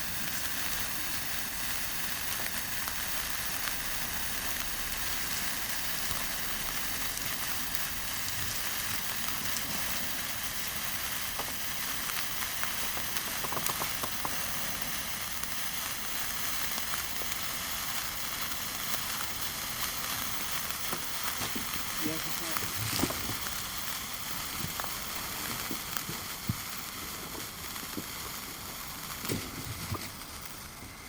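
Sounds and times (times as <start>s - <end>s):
sparkler hissing and crackling: 0.0s - 31.0s.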